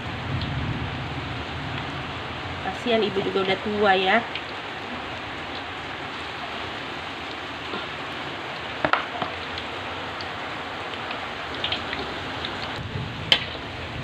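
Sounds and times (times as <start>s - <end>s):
food deep-frying in oil: 0.0s - 14.0s
heavy rain hissing: 0.0s - 14.0s.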